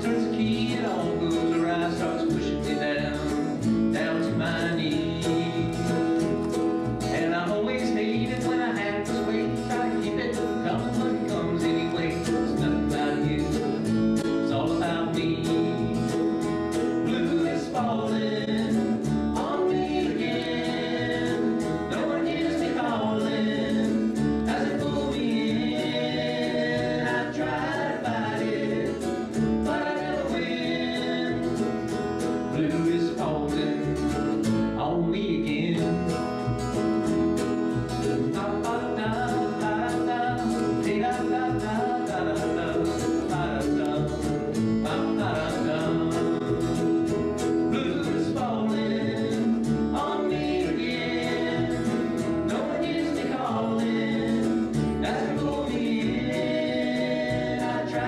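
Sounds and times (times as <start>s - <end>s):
voices singing together: 0.0s - 34.3s, 37.8s - 58.0s
acoustic string band playing: 0.0s - 58.0s.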